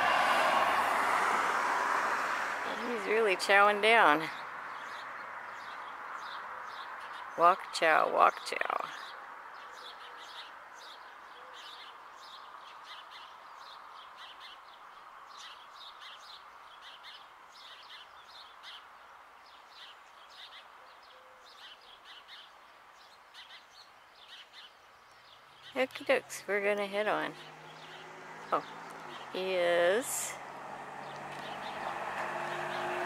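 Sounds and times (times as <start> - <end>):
small birds chirping: 2.6 - 33.0.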